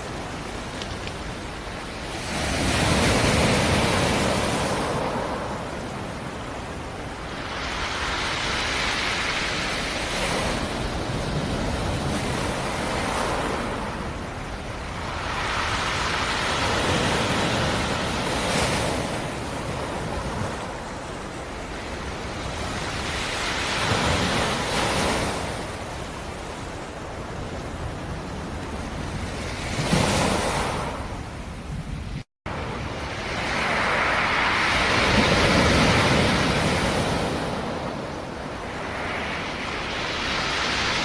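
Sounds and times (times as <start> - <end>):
waves breaking: 0.0 - 31.8, 32.5 - 41.0.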